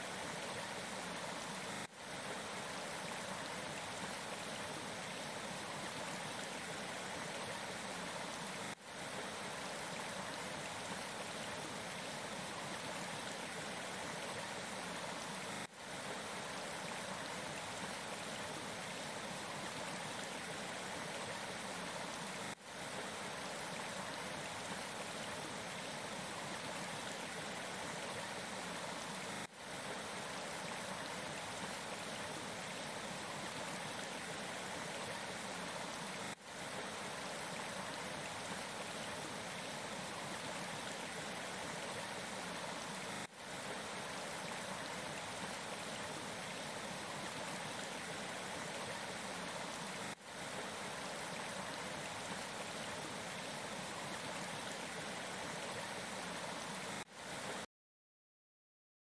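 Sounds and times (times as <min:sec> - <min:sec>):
stream running over stones: 0:00.0 - 0:57.7.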